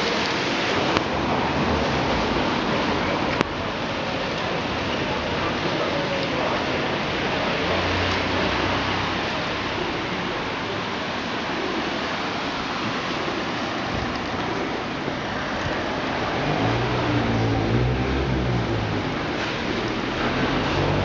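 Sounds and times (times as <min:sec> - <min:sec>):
rain falling on street: 0:00.0 - 0:21.0
vehicle engine hum: 0:00.0 - 0:21.0.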